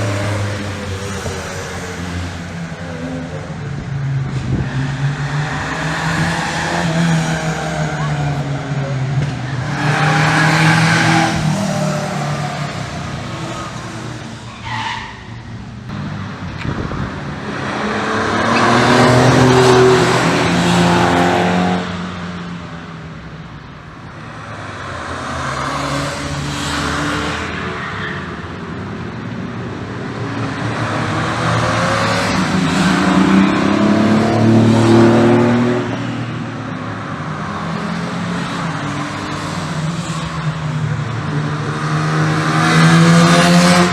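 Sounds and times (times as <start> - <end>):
racing cars passing by: 0.0 - 43.9.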